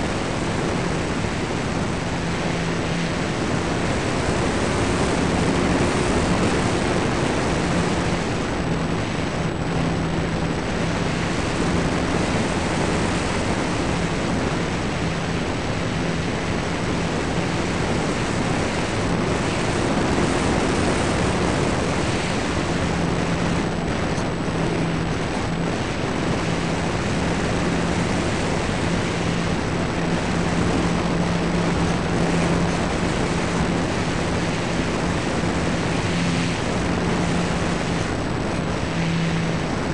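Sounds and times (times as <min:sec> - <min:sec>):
electric motor and propeller drone: 0:00.0 - 0:39.9
wind rushing over microphone: 0:00.0 - 0:39.9.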